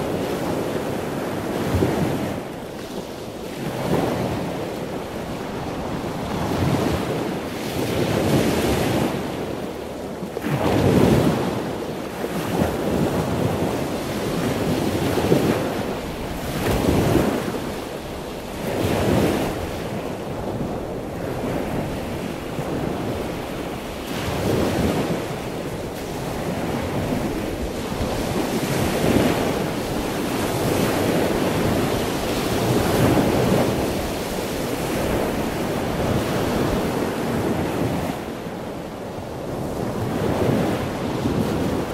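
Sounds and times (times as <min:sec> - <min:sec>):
sea waves washing: 0:00.0 - 0:41.9
wind: 0:00.0 - 0:41.9.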